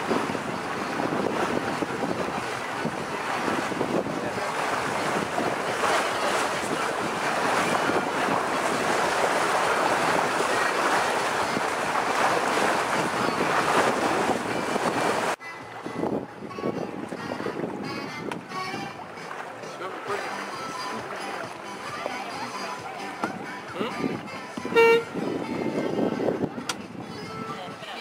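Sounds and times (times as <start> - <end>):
water rushing past boat: 0.0 - 28.0
wind buffeting microphone: 0.0 - 28.0.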